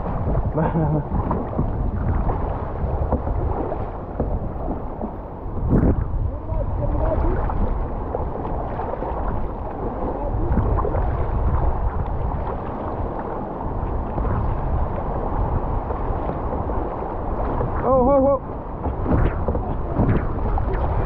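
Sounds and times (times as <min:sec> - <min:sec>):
river water rushing and gurgling: 0:00.0 - 0:21.0
wind rumble on microphone: 0:00.0 - 0:21.0.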